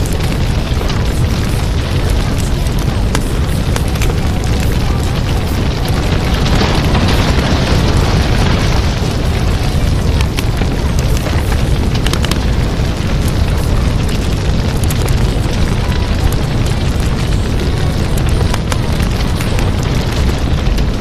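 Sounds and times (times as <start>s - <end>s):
rushing noise with low rumble: 0.0s - 21.0s.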